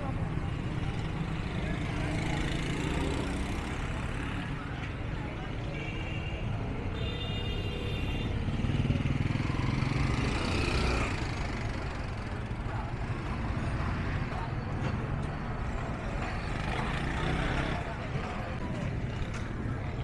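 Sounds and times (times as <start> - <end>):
cars and motorcycles passing: 0.0 - 5.5, 8.2 - 20.0.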